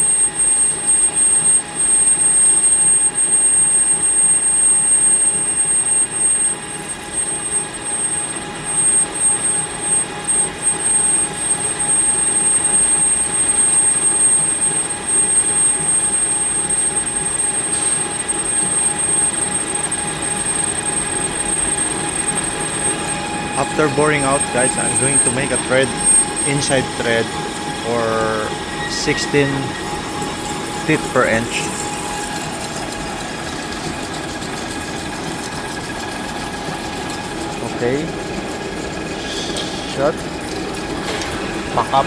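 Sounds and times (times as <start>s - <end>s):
lathe machine whine: 0.0s - 42.0s
metal cutting noise: 0.0s - 42.0s.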